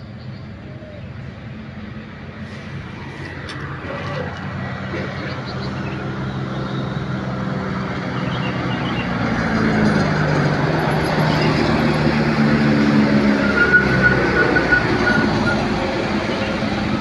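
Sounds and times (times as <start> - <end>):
heavy truck engine running: 0.0 - 17.0
tyre and road noise: 0.0 - 17.0.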